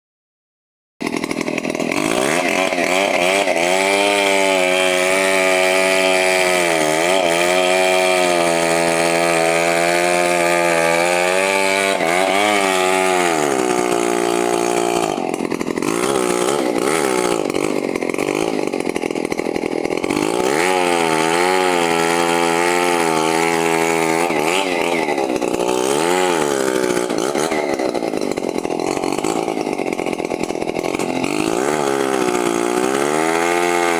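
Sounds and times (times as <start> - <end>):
chainsaw cutting into tree trunk: 1.0 - 33.9.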